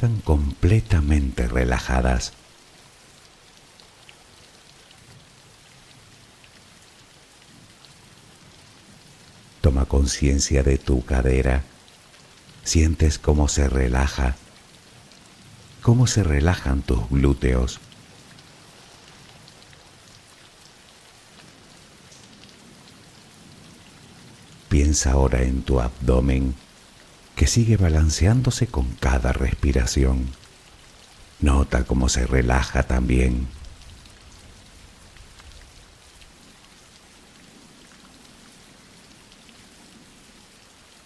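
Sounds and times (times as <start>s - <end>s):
raindrop ticks: 0.0s - 41.0s
soft steady rain: 0.0s - 41.0s.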